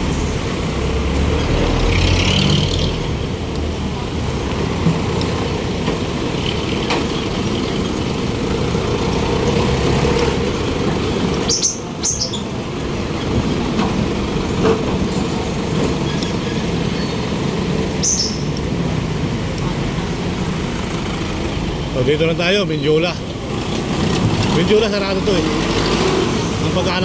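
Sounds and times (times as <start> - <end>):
rumble of passing cars: 0.0 - 27.0.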